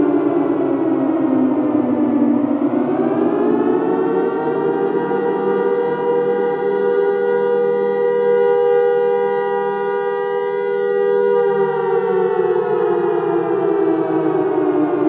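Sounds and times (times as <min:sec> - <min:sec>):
air raid siren wailing: 0:00.0 - 0:15.0.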